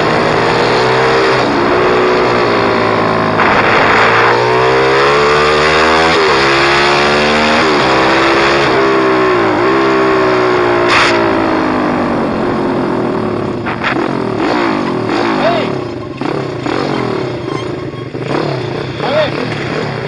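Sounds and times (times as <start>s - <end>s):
pit bike engine revving: 0.0s - 20.0s.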